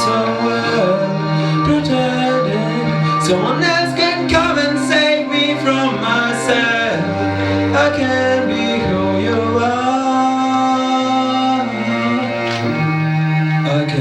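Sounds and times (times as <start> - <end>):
man singing long notes: 0.0 - 14.0
soft instrumental backing: 0.0 - 14.0.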